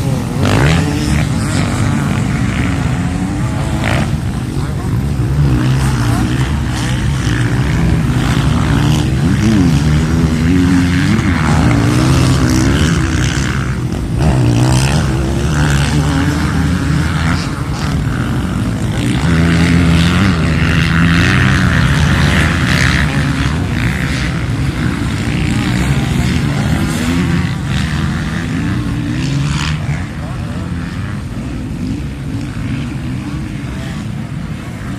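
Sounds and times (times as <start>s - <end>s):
motocross bike engines revving: 0.0s - 34.9s.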